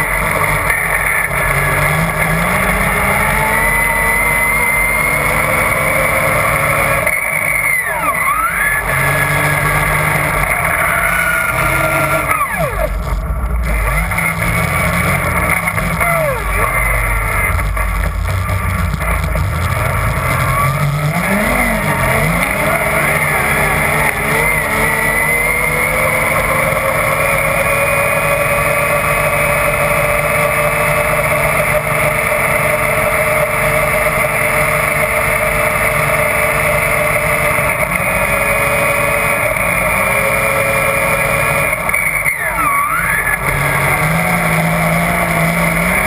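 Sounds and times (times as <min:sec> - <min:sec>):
snowmobile engine accelerating: 0:00.0 - 0:46.0.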